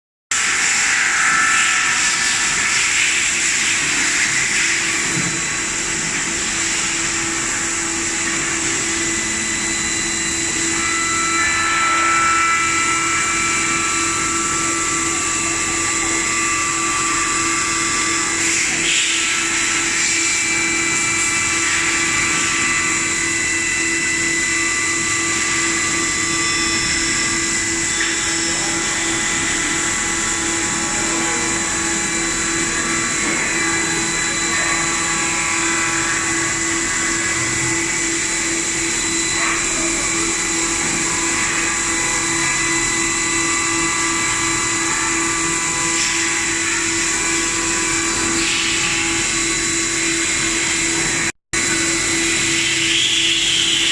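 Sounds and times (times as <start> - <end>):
machine spindle high-pitched whine: 0.3 - 53.9.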